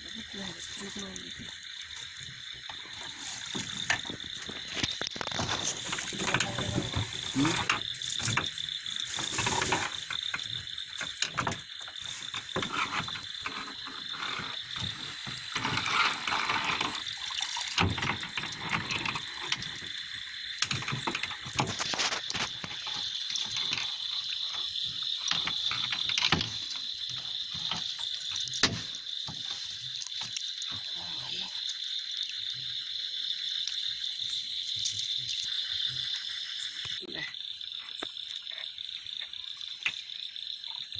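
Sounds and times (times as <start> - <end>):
frogs and insects chorus: 0.0 - 40.9
water splashing: 0.0 - 40.9.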